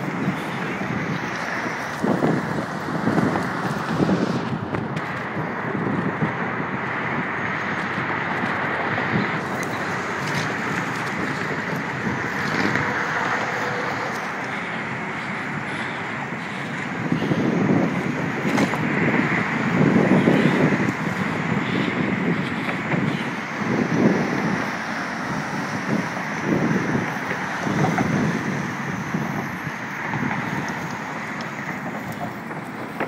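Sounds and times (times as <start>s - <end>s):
car road and wind noise: 0.0s - 33.0s
wind buffeting microphone: 0.0s - 33.0s.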